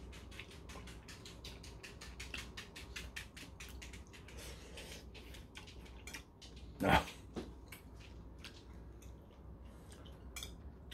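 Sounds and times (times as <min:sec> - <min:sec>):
wet chewing: 0:00.0 - 0:10.7.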